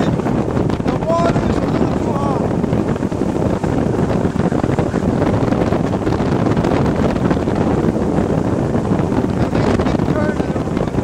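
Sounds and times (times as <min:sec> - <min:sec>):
outboard engine running: 0:00.0 - 0:11.0
water rushing along hull: 0:00.0 - 0:11.0
wind buffeting microphone: 0:00.0 - 0:11.0.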